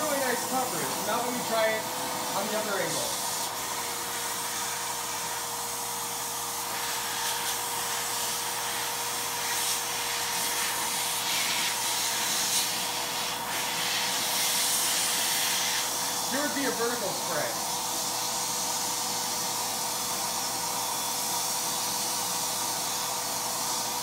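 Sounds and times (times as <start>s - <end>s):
air blowing through spray gun: 0.0s - 24.0s
paint sprayer turbine running: 0.0s - 24.0s.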